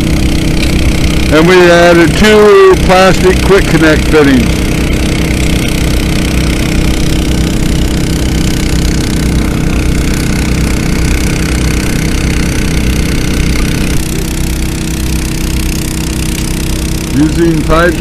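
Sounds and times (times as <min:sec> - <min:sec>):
water pump engines running: 0:00.0 - 0:18.0.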